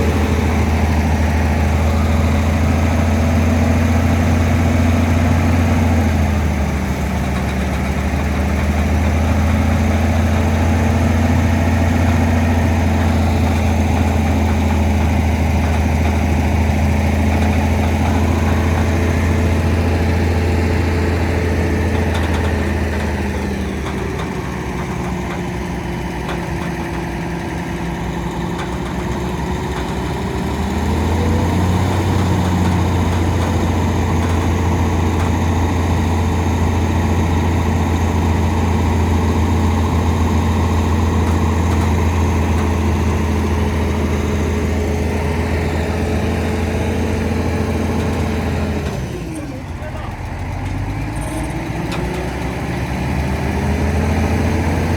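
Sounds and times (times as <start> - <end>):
truck engine running: 0.0 - 54.9.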